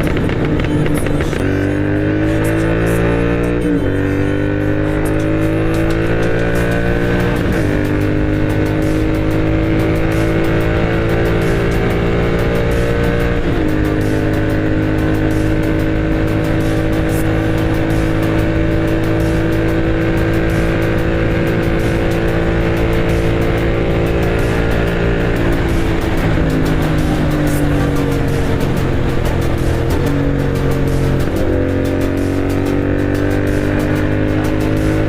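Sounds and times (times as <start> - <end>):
background music: 0.0 - 35.0
motorcycle engine running: 0.0 - 35.0.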